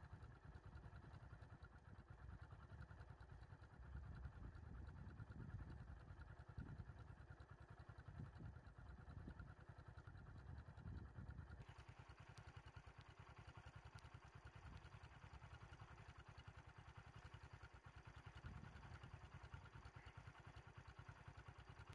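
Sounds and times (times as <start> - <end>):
faint vehicle engine idling: 0.0 - 21.9.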